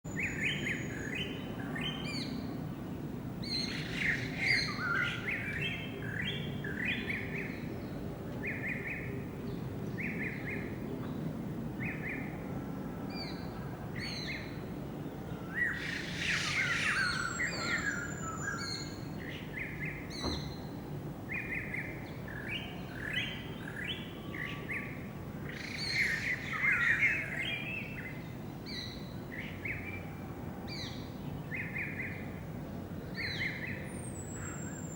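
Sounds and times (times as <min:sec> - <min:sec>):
birds chirping: 0:00.1 - 0:12.5, 0:13.1 - 0:30.1.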